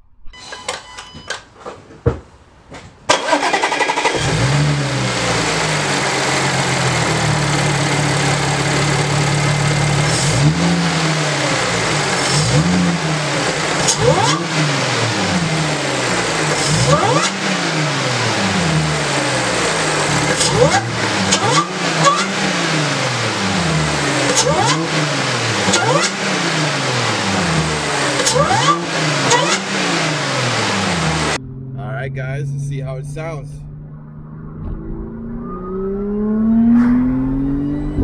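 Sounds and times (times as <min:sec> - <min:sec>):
car engine starting and idling: 0:00.0 - 0:38.0
engine revving with whine: 0:03.2 - 0:38.0.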